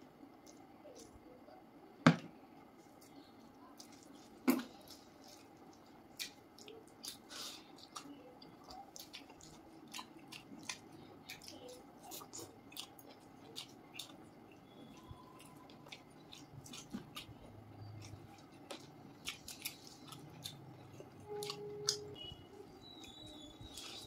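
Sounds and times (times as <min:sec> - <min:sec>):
mouths chewing: 0:02.8 - 0:24.0.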